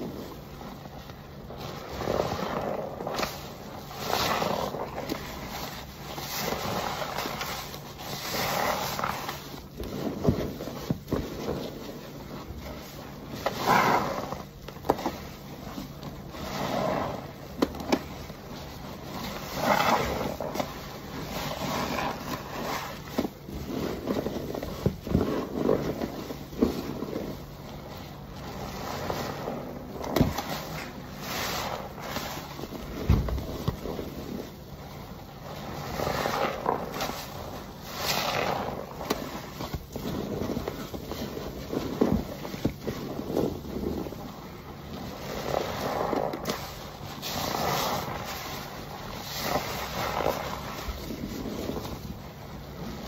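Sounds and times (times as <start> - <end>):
foamy sponge squelching: 0.0 - 53.0.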